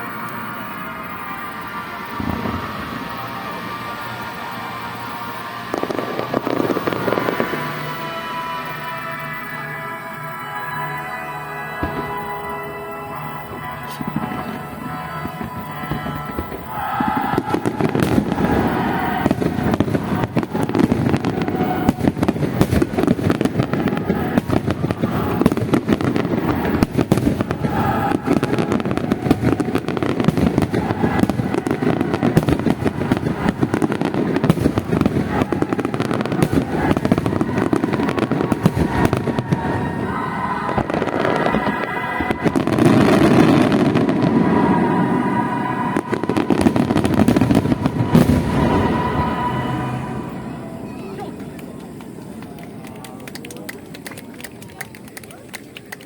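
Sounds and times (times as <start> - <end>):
fireworks bursts and crackling: 0.0 - 56.0.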